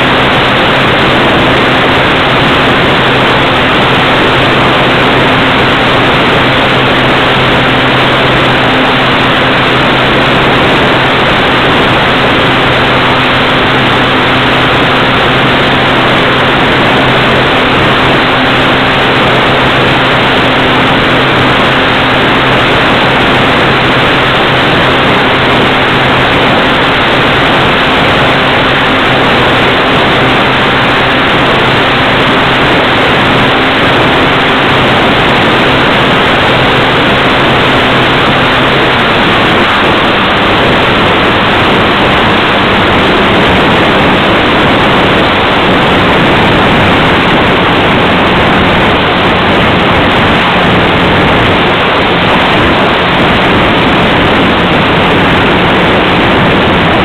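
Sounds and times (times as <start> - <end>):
faint electric motor and propeller hum: 0.0 - 57.0
loud wind rush over microphone: 0.0 - 57.0.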